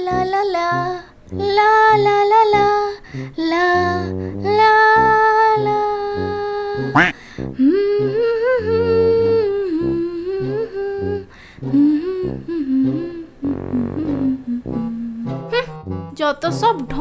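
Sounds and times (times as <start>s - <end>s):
hummed vocal melody: 0.0s - 15.9s.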